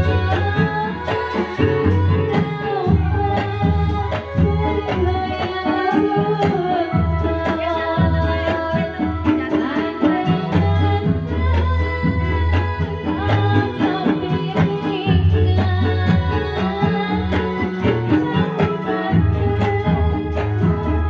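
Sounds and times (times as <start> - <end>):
hand drums beating: 0.0 - 21.0
sustained melody line: 0.0 - 21.0.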